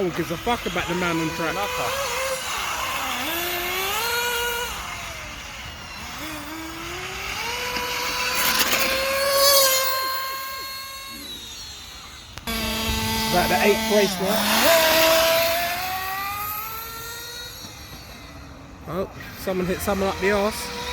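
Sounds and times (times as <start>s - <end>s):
rc car motors whining: 0.0s - 20.9s.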